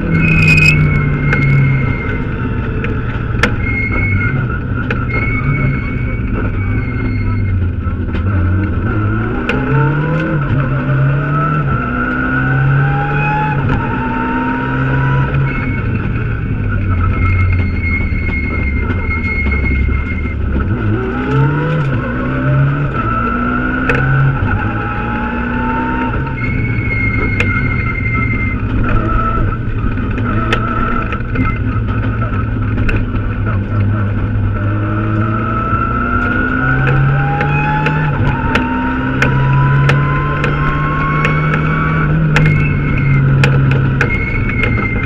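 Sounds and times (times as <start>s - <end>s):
car engine revving: 0.0s - 45.0s
road and tyre noise: 0.0s - 45.0s.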